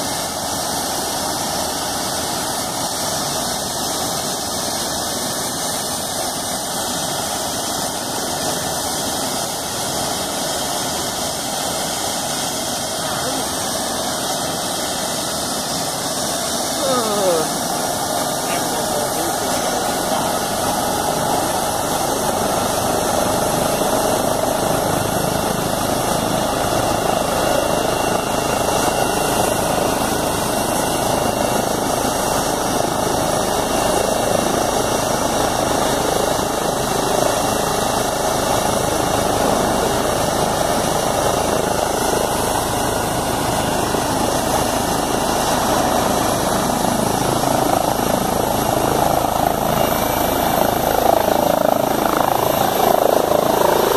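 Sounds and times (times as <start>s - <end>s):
helicopter rotor rush: 0.0s - 53.9s
high turbine whine: 0.0s - 53.9s.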